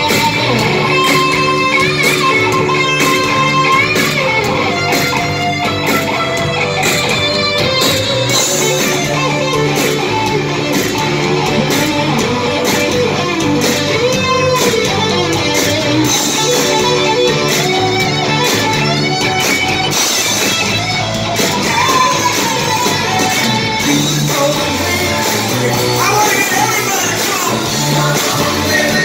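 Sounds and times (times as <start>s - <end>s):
bass: 0.0s - 29.0s
drums: 0.0s - 29.0s
electric guitar lead: 0.0s - 29.0s.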